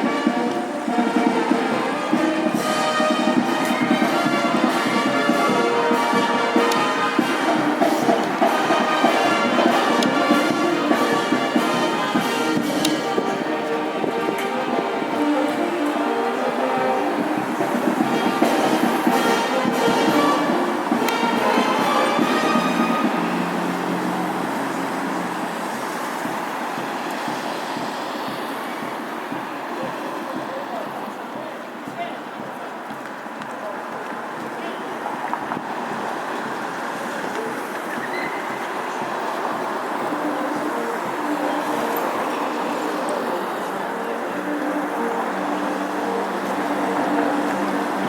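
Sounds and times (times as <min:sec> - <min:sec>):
brass band playing: 0:00.0 - 0:31.5, 0:35.7 - 0:48.0
distant road traffic: 0:00.0 - 0:48.0
percussion strokes: 0:00.0 - 0:48.0.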